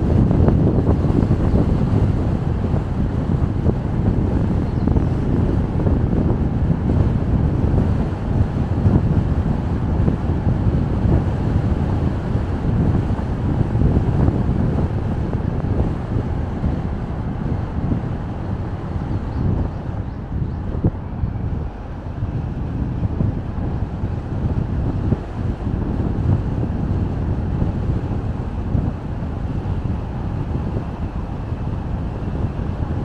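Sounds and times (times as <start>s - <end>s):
wind and road noise from car: 0.0s - 33.0s.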